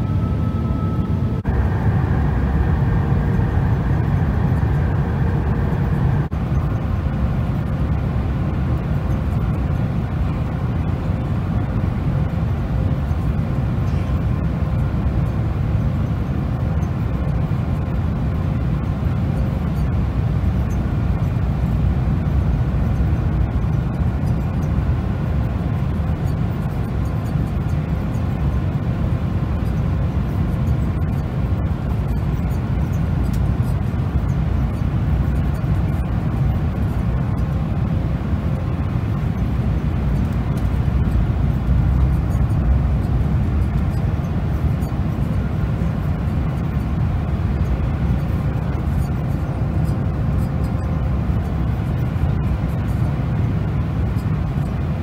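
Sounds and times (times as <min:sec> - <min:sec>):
airliner cabin roar: 0:00.0 - 0:55.0.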